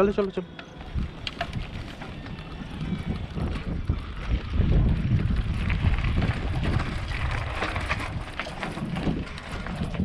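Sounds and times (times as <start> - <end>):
wind buffeting microphone: 0.0 - 10.0
low rumbling: 0.7 - 10.0.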